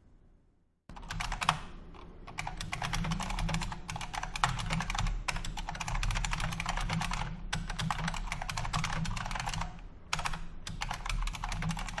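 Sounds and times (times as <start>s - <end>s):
fast typing on clicky keyboard: 0.9s - 12.0s.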